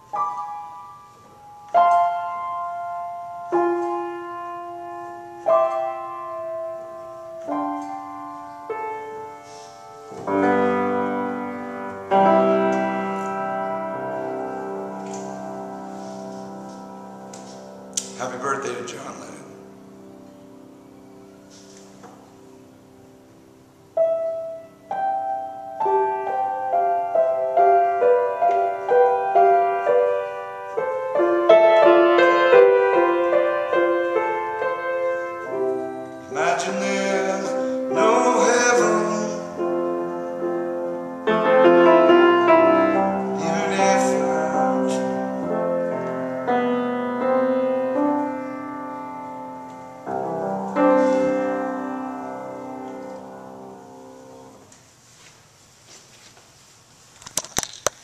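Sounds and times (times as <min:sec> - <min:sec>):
solo grand piano: 0:00.0 - 0:55.9.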